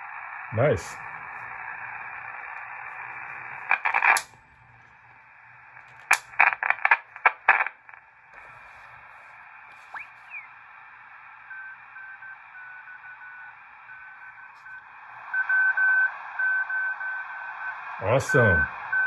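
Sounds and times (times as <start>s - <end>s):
radio band noise hiss: 0.0s - 15.3s, 17.8s - 19.0s
radio crackles and pops: 0.0s - 16.4s.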